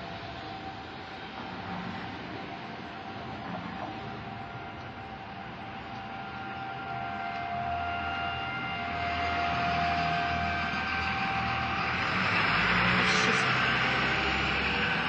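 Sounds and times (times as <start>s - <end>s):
droning hum with held tones: 0.0s - 15.0s
rushing noise: 0.0s - 15.0s.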